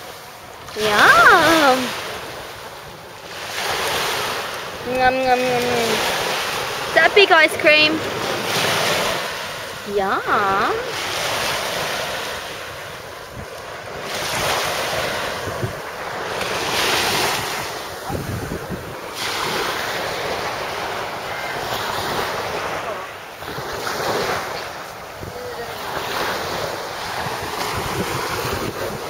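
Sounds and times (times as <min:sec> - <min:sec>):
small waves washing up shore: 0:00.0 - 0:29.0
wind buffeting microphone: 0:00.7 - 0:29.0.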